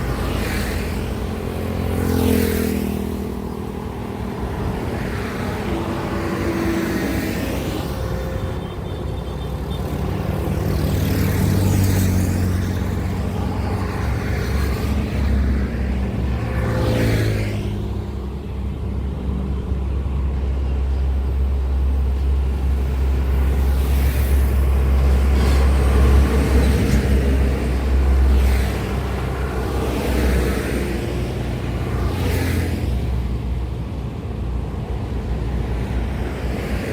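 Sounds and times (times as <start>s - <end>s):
vehicles swishing past: 0.0s - 36.9s.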